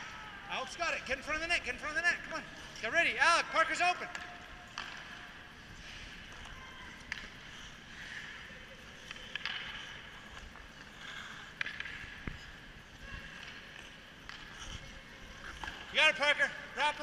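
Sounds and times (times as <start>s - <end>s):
hockey sticks clacking: 0.8s - 17.0s
ice skates scraping: 1.2s - 17.0s.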